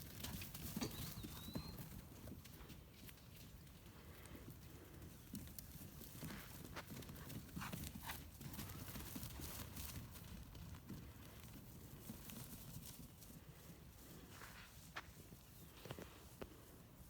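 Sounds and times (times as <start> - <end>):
donkey hoofbeats on ground: 0.0 - 16.9.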